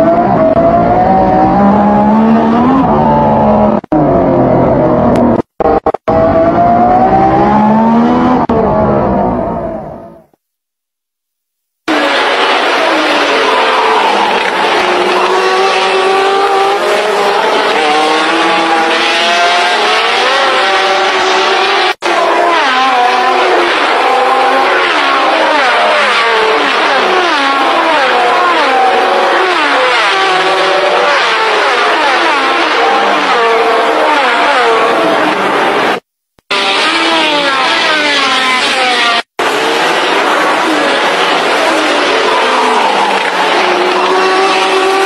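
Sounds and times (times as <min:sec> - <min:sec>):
racing car engines revving: 0:00.0 - 0:10.4, 0:11.8 - 0:45.0.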